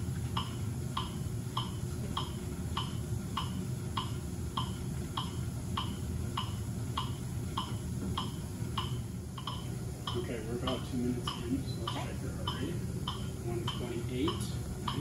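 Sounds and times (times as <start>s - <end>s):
metronome clicking: 0.4s - 15.0s.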